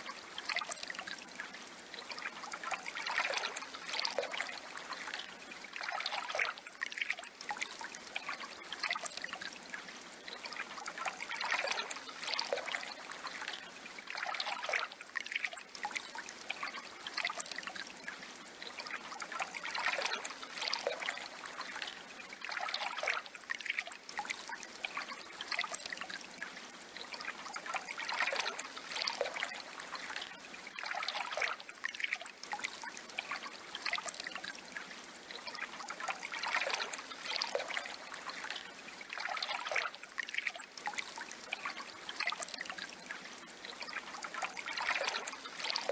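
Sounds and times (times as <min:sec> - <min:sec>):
water trickling and splashing: 0:00.0 - 0:45.9.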